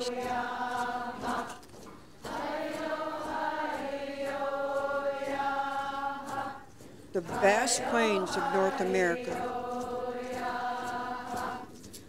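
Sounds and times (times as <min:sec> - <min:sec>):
women chanting in held notes: 0:00.0 - 0:01.6, 0:02.2 - 0:11.7.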